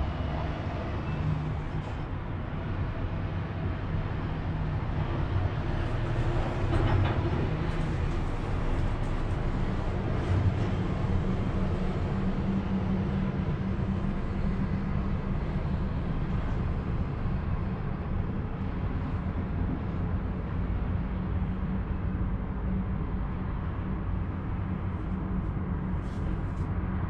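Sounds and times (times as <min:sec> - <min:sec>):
cable car rumble and hum: 0:00.0 - 0:27.0.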